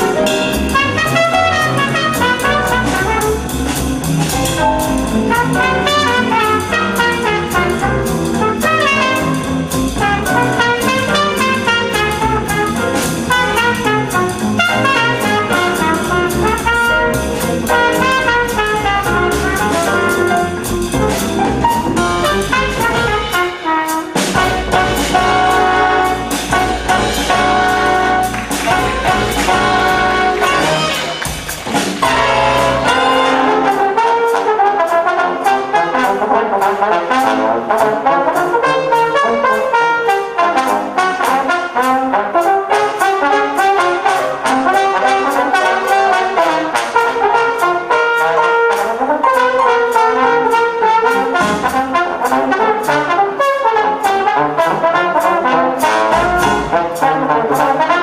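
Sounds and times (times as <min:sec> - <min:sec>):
drums on cymbals: 0:00.0 - 0:34.5, 0:35.1 - 0:58.0
jazz big band playing: 0:00.0 - 0:58.0
trombones playing melody: 0:00.0 - 0:58.0.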